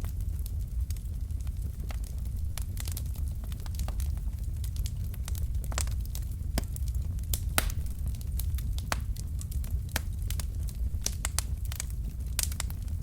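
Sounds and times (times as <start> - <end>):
low rumble of flame: 0.0 - 13.0
wood fire crackling: 0.0 - 13.0.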